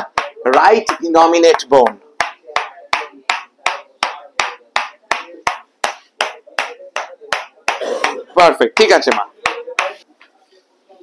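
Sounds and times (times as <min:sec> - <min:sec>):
rhythmic tapping: 0:00.0 - 0:10.1.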